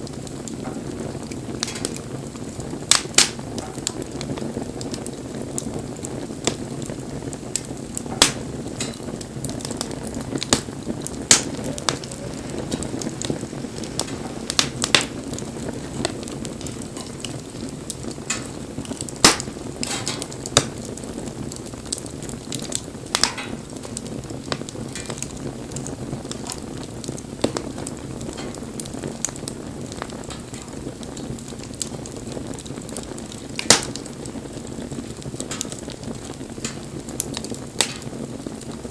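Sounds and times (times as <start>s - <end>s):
bonfire flames rushing: 0.0s - 38.9s
fire crackling and snapping: 0.0s - 38.9s.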